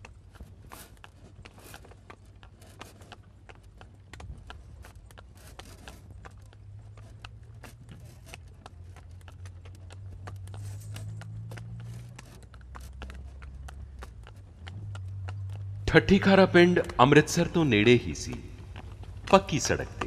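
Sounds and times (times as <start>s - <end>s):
horse hooves clip-clopping: 0.0s - 20.0s
low steady rumble: 0.0s - 20.0s.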